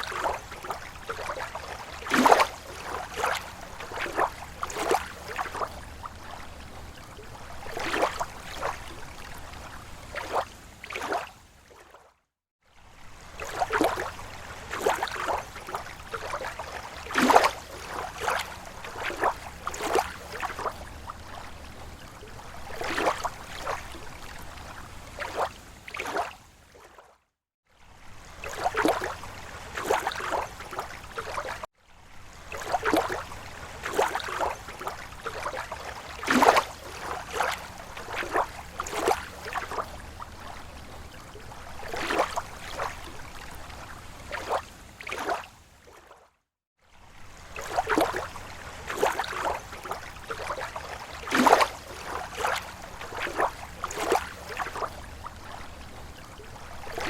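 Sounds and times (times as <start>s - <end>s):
small waves lapping shore: 0.0s - 57.0s.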